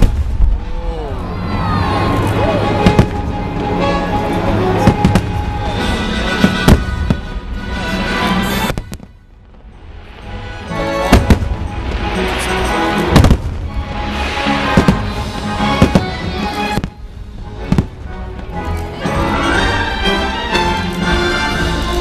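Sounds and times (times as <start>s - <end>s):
fireworks banging and crackling: 0.0s - 22.0s.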